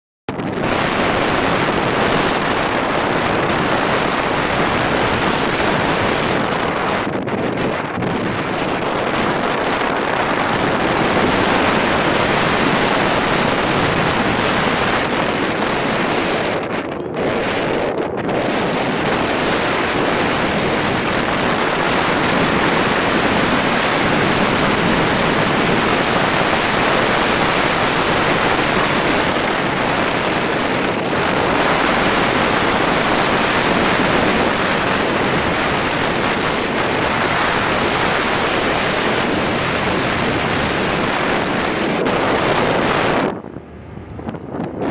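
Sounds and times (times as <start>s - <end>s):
wind buffeting microphone: 0.3s - 44.9s.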